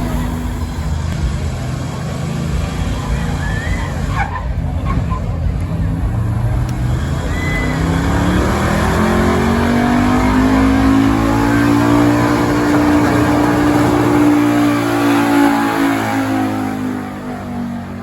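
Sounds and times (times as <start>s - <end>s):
pickup truck engine at full throttle: 0.0s - 18.0s.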